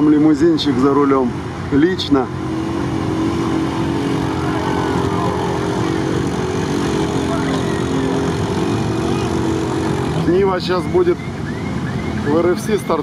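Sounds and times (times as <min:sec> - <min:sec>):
off-road engines idling: 0:00.0 - 0:13.0
quad bike passing: 0:00.0 - 0:13.0.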